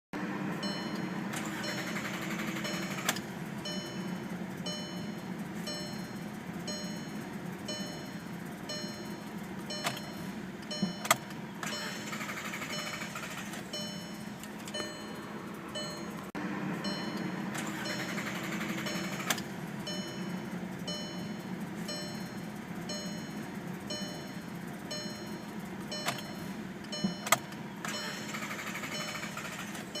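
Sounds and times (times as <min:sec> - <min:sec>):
car engine idling: 0:00.2 - 0:30.0
dashboard warning chime beeping: 0:00.2 - 0:30.0.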